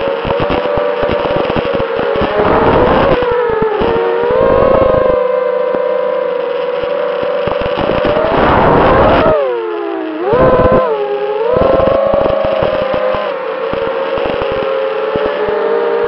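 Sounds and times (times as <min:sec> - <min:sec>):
quadcopter motors whining: 0:00.0 - 0:16.0
rushing noise bursts: 0:00.0 - 0:16.0.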